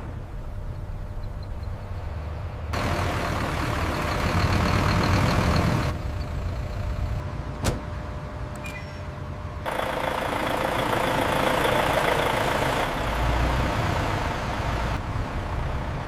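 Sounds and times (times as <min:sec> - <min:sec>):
heavy factory machinery rumble: 0:00.0 - 0:16.0.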